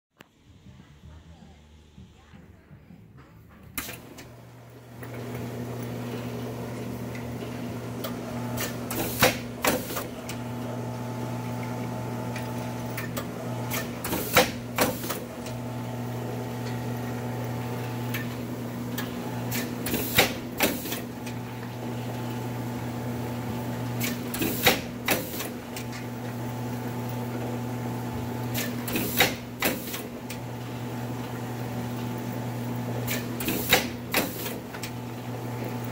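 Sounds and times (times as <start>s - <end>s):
machine motor hum: 3.7s - 35.9s.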